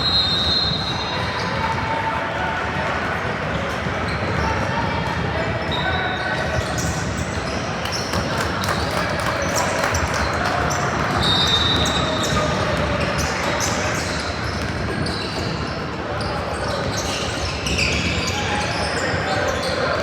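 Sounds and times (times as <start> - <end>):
chatter of spectators: 0.0 - 20.0.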